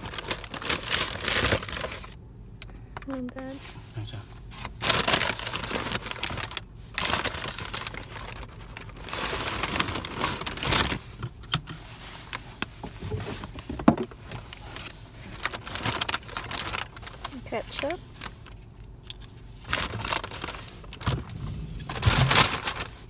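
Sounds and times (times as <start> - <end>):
paper bag rustling and crinkling: 0.0 - 2.2, 4.5 - 23.0.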